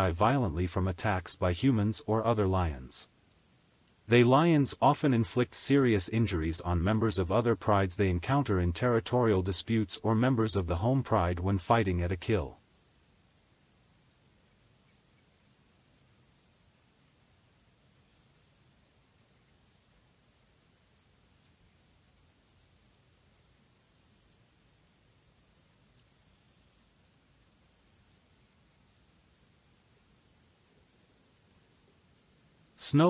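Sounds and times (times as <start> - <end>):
high insect trill: 0.0 - 11.5, 12.1 - 32.9
crickets chirping: 0.0 - 32.9.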